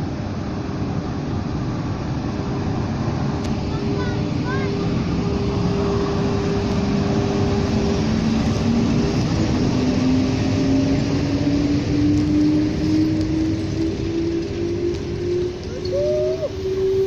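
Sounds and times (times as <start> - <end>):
locomotive traction whine rising: 0.0 - 17.0
train rumbling on rails: 0.0 - 17.0.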